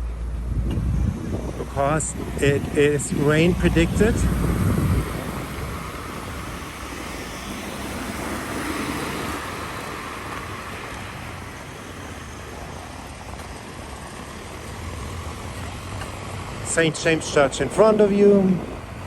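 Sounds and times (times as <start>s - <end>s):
car traffic noise: 0.0s - 19.0s
vehicle passing: 0.0s - 19.0s.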